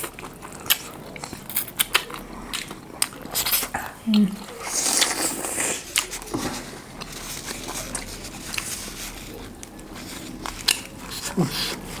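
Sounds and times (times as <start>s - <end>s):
close-miked chewing: 0.0s - 12.0s.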